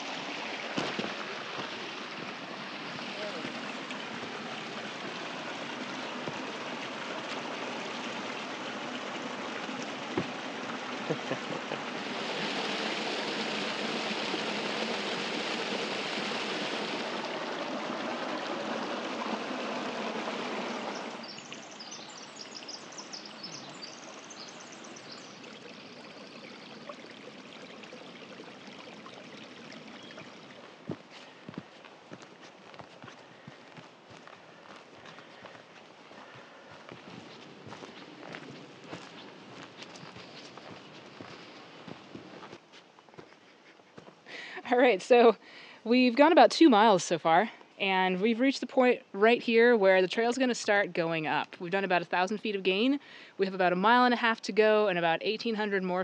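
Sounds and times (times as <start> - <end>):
creek water rushing: 0.0 - 46.8.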